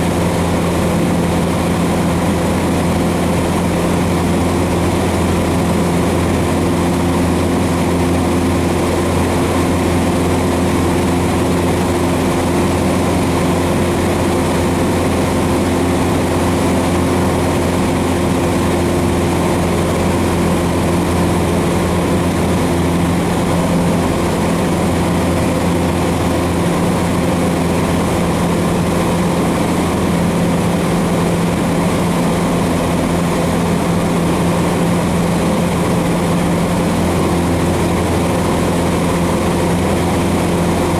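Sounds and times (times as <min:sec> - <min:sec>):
light aircraft engine drone: 0:00.0 - 0:40.9.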